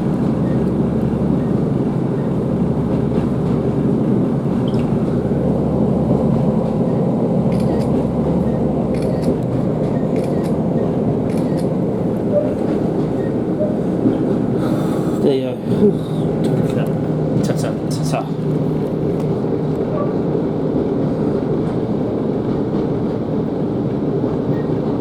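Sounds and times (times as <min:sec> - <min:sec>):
diesel engine drone: 0:00.0 - 0:20.8
wheels rumbling on rail: 0:00.0 - 0:25.0.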